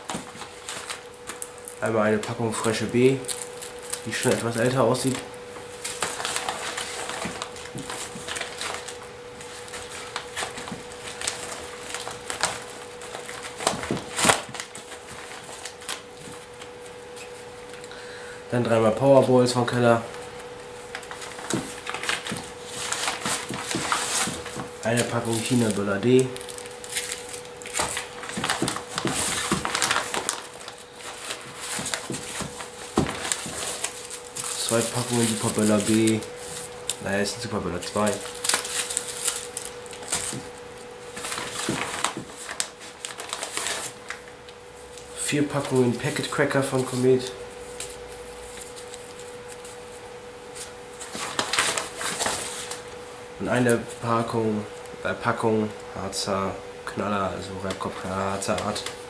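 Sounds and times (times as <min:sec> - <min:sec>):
plastic bag crinkling: 0:00.0 - 0:18.0, 0:19.5 - 0:54.8.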